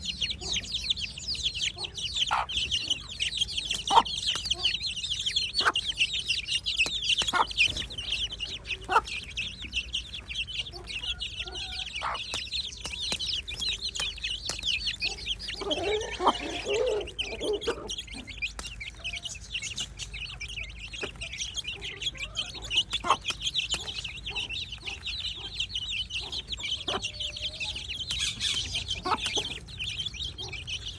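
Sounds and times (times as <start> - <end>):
chicks peeping: 0.0 - 30.9
hen clucking: 0.0 - 30.9.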